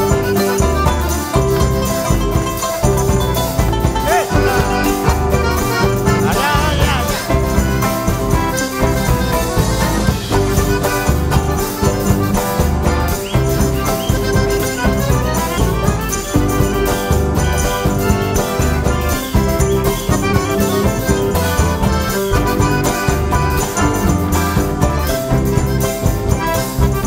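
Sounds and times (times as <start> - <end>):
upbeat folk music: 0.0 - 27.0.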